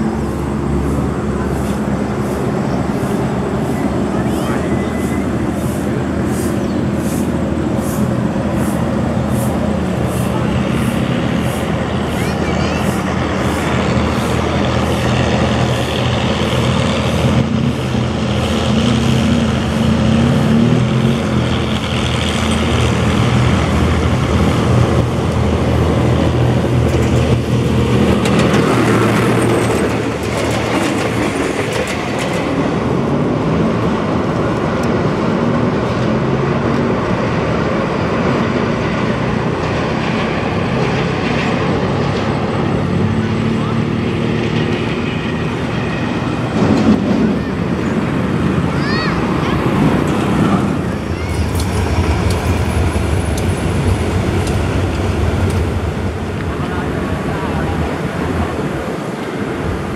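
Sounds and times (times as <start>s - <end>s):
diesel locomotive engine running: 0.0s - 59.9s
wheels clicking over rail joints: 0.0s - 59.9s.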